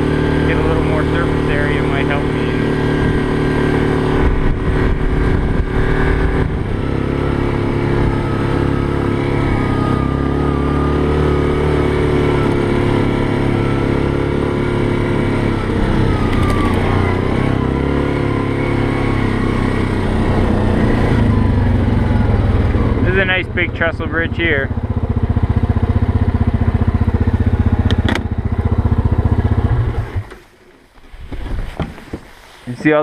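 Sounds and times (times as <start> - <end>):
quad bike engine running: 0.0 - 31.5.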